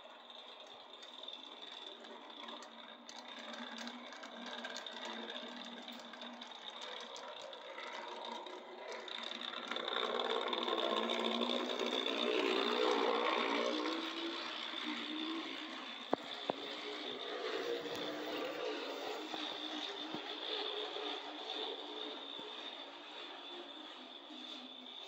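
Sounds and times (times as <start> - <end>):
model train motor and wheels whirring: 0.0 - 25.0.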